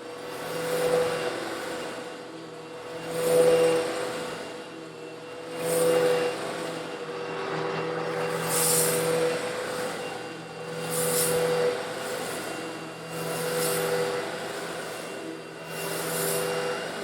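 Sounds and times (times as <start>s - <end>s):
vacuum cleaner motor hum: 0.0s - 17.0s.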